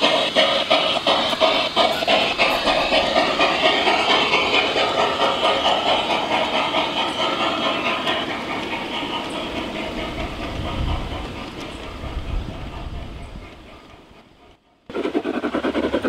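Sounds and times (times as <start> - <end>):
model steam locomotive chuffing: 0.0 - 16.0
steam hiss: 0.0 - 16.0.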